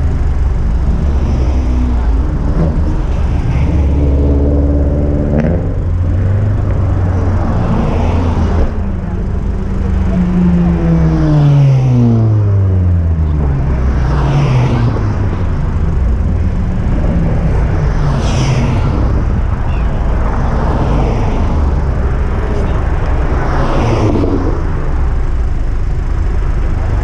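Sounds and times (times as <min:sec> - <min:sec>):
car engine: 0:00.0 - 0:27.0
passing vehicle noise: 0:00.0 - 0:27.0
road rumble: 0:00.0 - 0:27.0.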